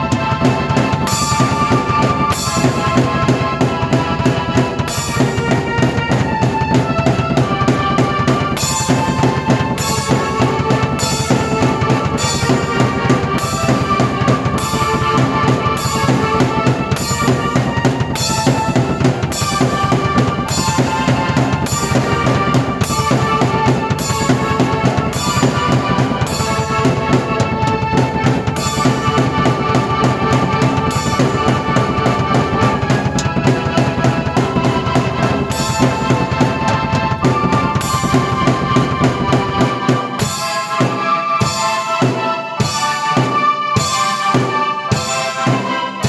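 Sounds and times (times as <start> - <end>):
drum kit beat: 0.0 - 46.0
held keyboard chords: 0.0 - 46.0.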